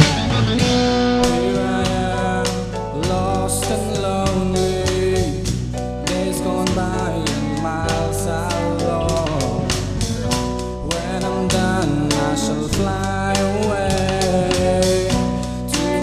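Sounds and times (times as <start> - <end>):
drum kit beat: 0.0 - 16.0
electric guitar chords: 0.0 - 16.0
keyboard chords: 0.0 - 16.0.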